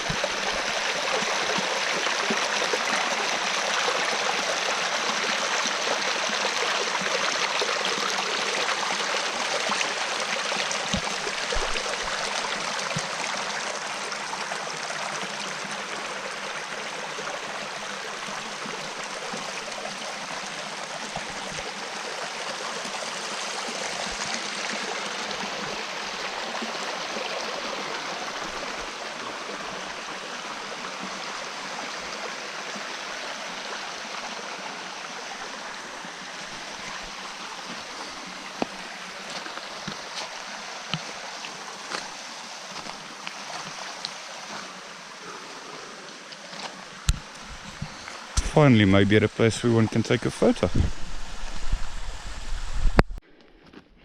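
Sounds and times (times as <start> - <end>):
water running over rocks: 0.0 - 53.2.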